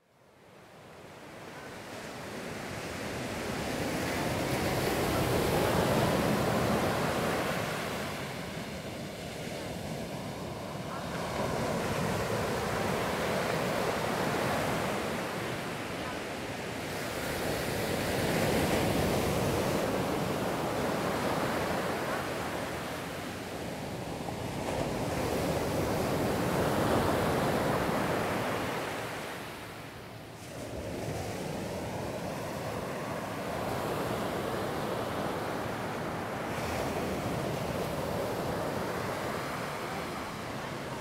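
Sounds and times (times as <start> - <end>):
waves washing up a beach: 0.0 - 41.0.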